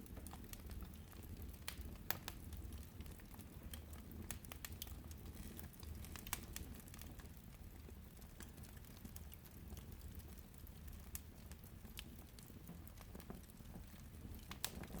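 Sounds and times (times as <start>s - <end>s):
firewood crackling and snapping: 0.0s - 15.0s.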